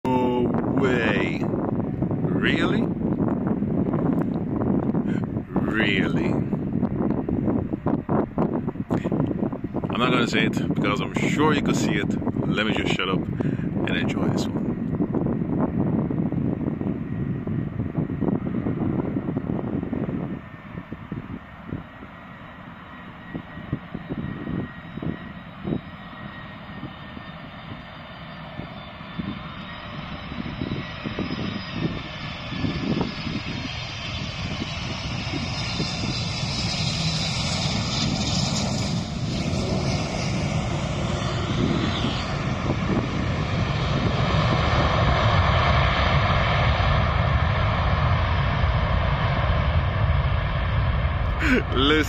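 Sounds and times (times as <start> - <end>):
jet engine roar: 0.0 - 52.0
jet engine whine: 0.0 - 52.0
wind buffeting microphone: 0.0 - 52.0.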